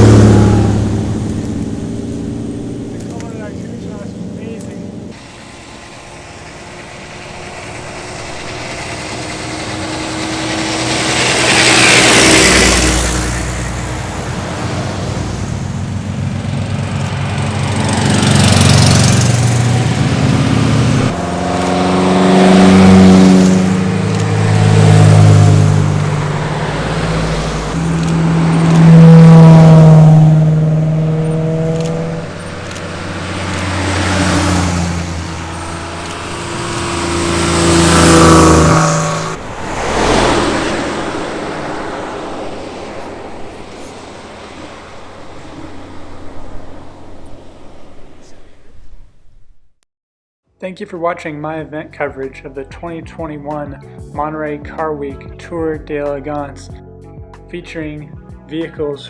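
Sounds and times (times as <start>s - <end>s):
cars driving past: 0.0s - 49.6s.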